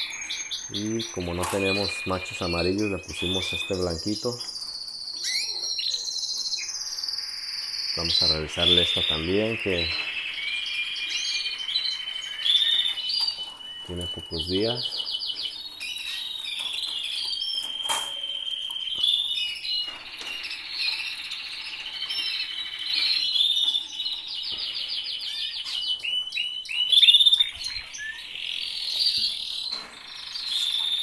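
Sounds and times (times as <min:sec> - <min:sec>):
canaries singing: 0:00.0 - 0:31.0.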